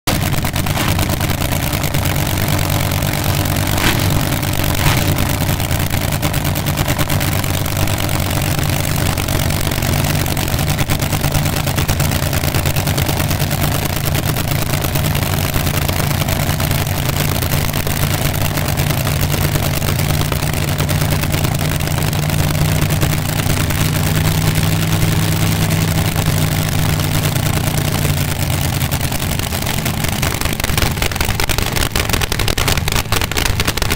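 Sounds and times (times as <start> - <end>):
dragster engines idling: 0.0 - 33.9.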